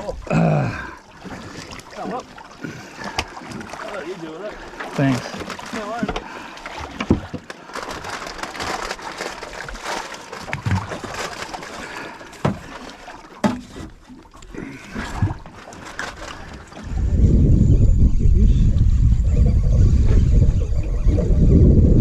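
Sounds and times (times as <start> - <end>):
water sloshing around a boat: 0.0 - 21.7.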